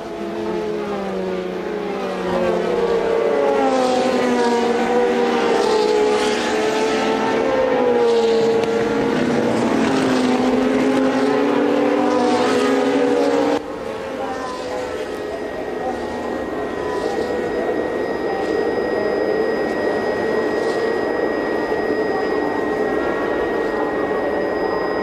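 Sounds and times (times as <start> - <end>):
racing car engines at high revs: 0.0 - 25.0.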